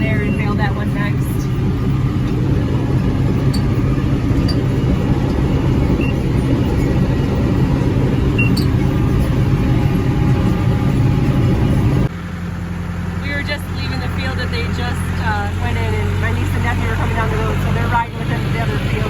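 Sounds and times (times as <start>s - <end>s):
tractor and baler drone: 0.0s - 19.0s.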